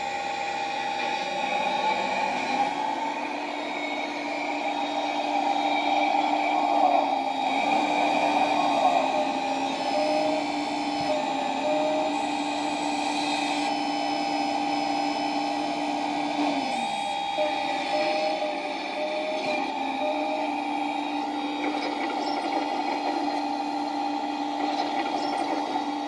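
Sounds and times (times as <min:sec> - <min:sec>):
hydraulic pump whine: 0:00.0 - 0:26.0.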